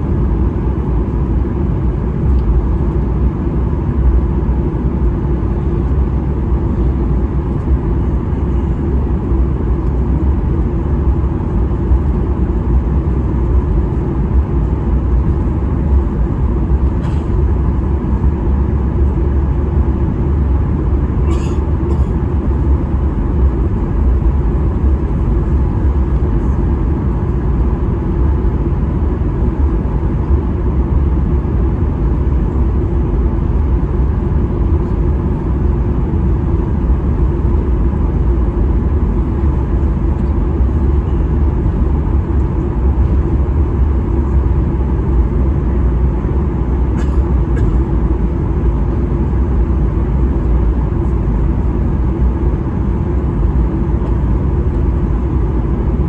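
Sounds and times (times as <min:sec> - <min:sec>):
aircraft cabin low rumble: 0:00.0 - 0:56.0.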